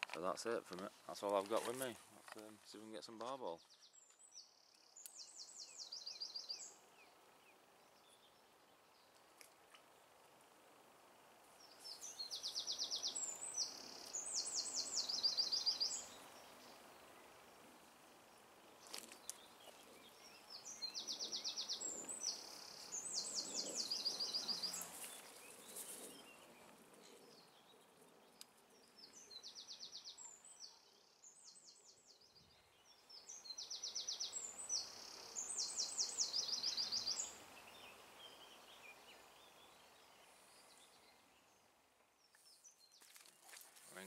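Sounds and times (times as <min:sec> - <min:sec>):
faint outdoor background noise: 0:00.0 - 0:44.0
songbird singing trills: 0:03.3 - 0:09.2, 0:11.6 - 0:18.1, 0:18.7 - 0:44.0.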